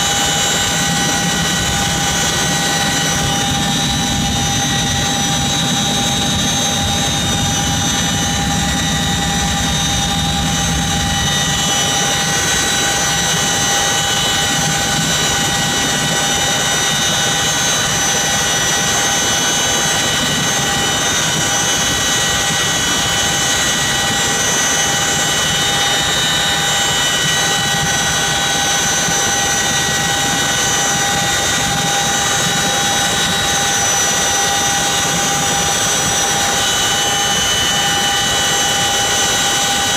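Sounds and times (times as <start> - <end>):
helicopter engines and rotors: 0.0 - 39.9.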